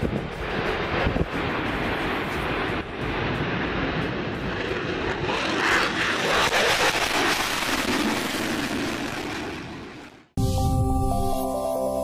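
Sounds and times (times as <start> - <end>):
jet engine roar: 0.0 - 10.4.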